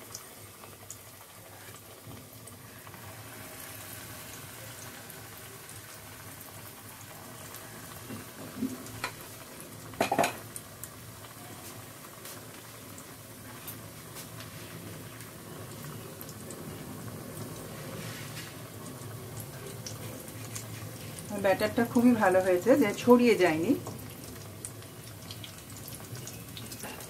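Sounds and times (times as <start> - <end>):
batter sizzling in hot oil: 0.0 - 27.0.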